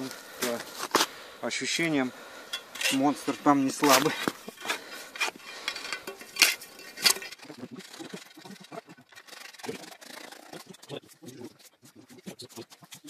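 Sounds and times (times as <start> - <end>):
ice scraping and crunching: 0.0 - 1.2, 2.5 - 13.0.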